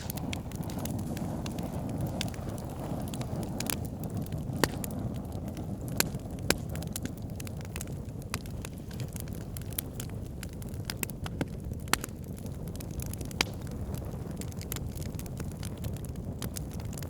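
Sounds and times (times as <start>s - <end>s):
wood campfire crackling: 0.0s - 17.0s.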